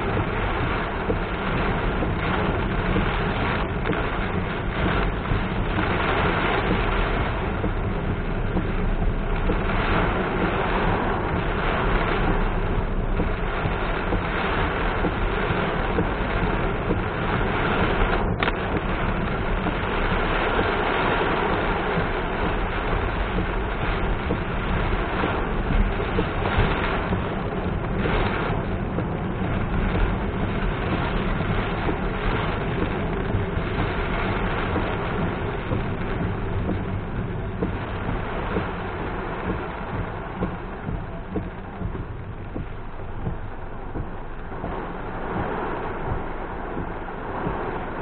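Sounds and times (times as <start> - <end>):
rain and tyres on wet road: 0.0 - 48.0.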